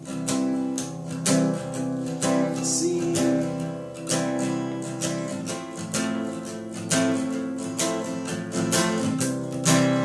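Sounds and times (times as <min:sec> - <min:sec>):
guitar strumming chords: 0:00.0 - 0:10.0.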